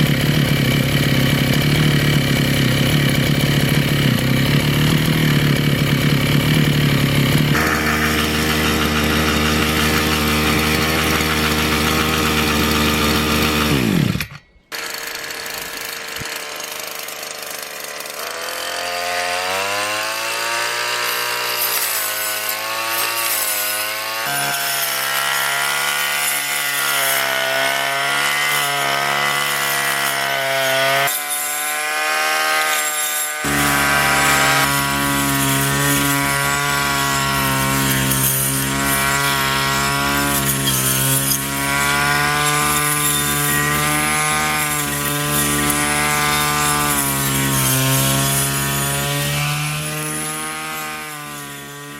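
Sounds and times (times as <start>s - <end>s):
brush cutter engine running: 0.0s - 51.9s.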